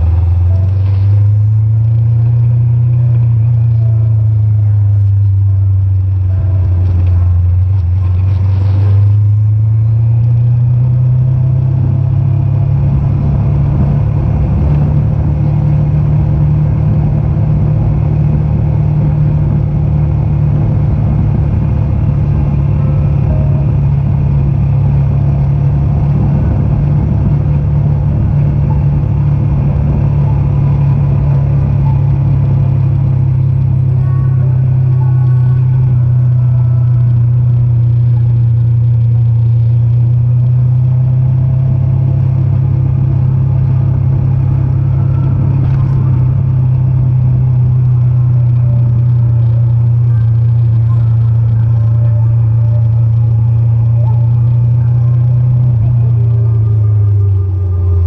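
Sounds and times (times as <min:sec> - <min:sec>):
motorcycle engine running: 0:00.0 - 0:58.0
road and wind rush: 0:00.0 - 0:58.0.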